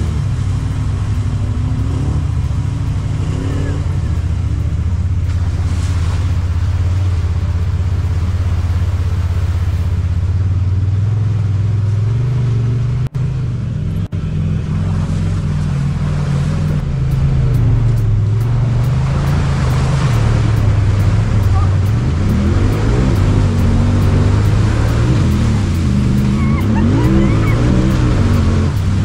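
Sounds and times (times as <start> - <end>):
utility vehicle engine revving: 0.0 - 29.0.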